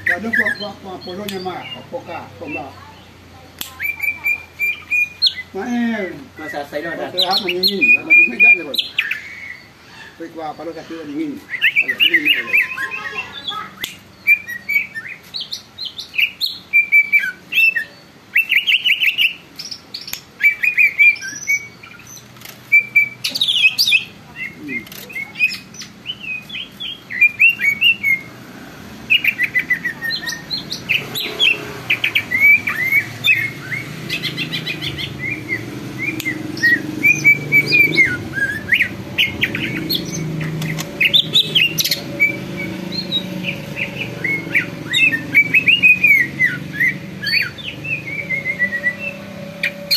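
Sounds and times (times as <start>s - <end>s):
bird chirping and trilling: 0.0s - 49.9s.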